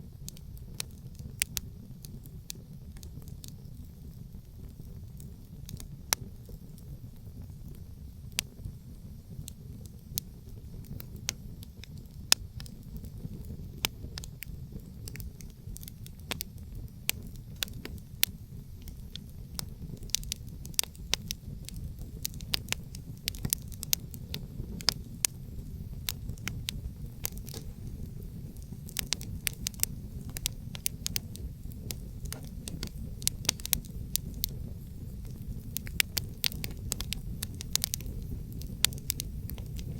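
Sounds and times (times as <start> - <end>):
campfire crackling and popping: 0.0 - 39.9
low rumble of wind: 0.0 - 39.9.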